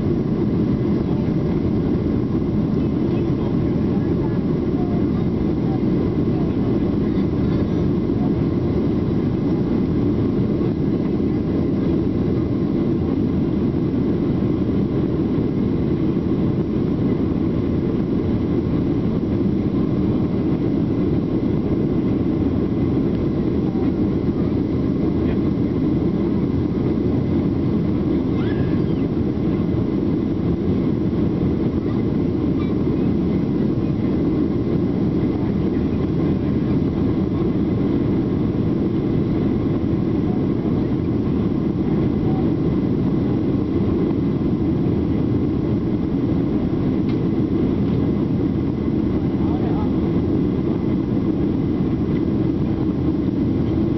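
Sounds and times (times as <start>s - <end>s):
jet engines humming: 0.0s - 53.9s.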